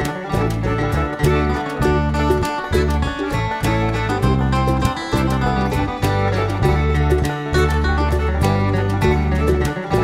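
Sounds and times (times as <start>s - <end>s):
acoustic plucked strings tune: 0.0s - 10.0s
steady bass line: 0.0s - 10.0s.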